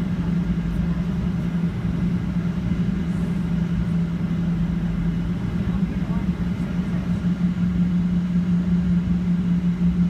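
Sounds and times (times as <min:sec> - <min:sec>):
airplane cabin hum: 0:00.0 - 0:10.0.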